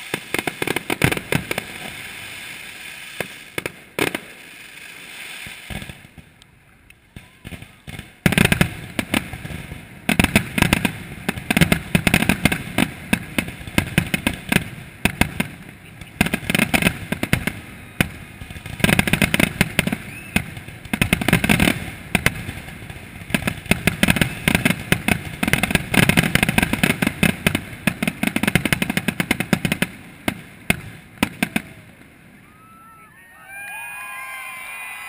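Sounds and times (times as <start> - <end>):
fireworks cracking and banging: 0.0 - 32.9.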